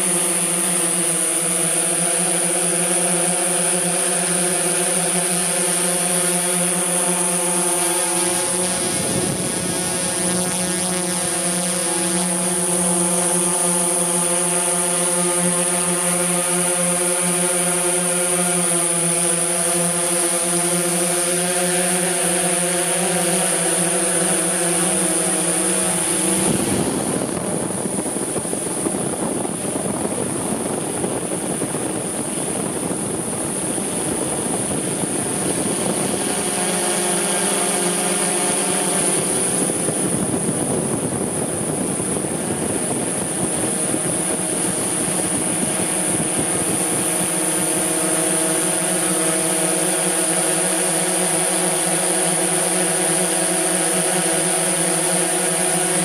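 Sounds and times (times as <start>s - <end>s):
drone motors and propellers droning: 0.0s - 56.0s.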